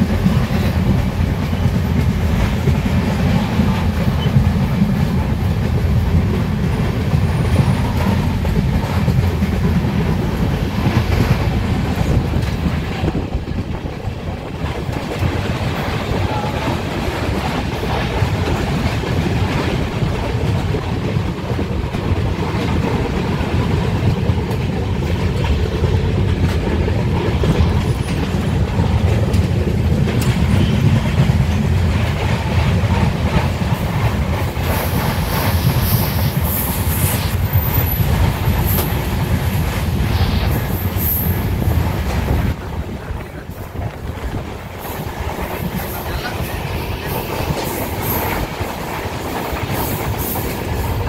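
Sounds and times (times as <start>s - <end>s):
rapid clickety-clack: 0.0s - 51.0s
train wheels rumbling on rails: 0.0s - 51.0s.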